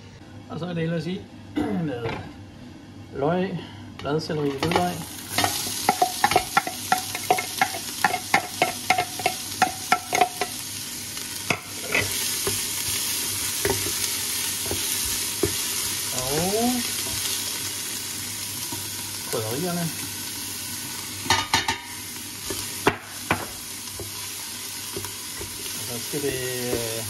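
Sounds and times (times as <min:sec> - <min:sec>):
vegetables sizzling in hot oil: 0:04.5 - 0:27.0.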